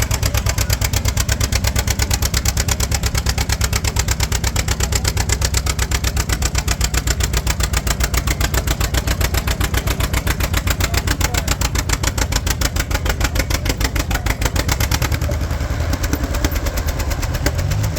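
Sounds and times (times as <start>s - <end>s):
tractor engine idling: 0.0s - 17.9s.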